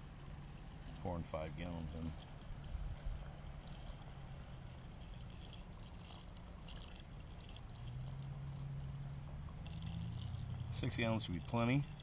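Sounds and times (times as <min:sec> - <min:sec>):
liquid pouring from a jug: 0:00.0 - 0:12.0.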